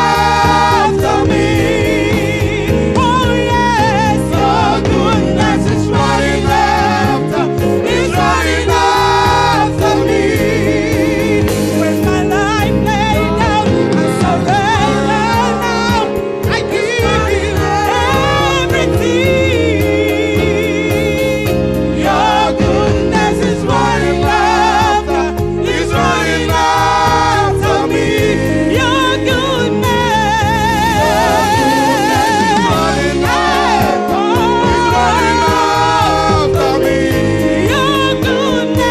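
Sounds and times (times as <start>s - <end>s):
gospel singing voices: 0.0s - 38.9s.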